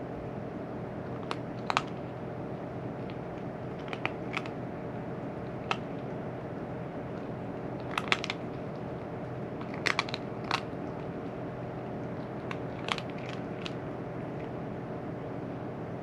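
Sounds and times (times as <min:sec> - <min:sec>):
steady background hum: 0:00.0 - 0:16.0
cat crunching dry food: 0:01.0 - 0:14.7.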